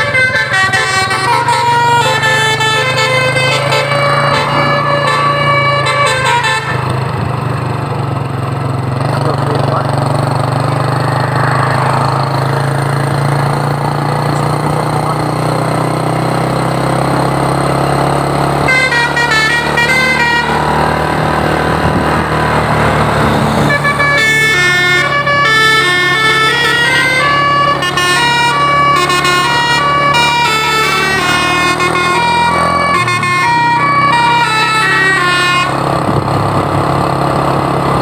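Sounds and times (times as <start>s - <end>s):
multi-tone bus air horn melody: 0.0s - 7.8s, 10.8s - 37.5s
bus engine and road noise: 0.0s - 38.0s.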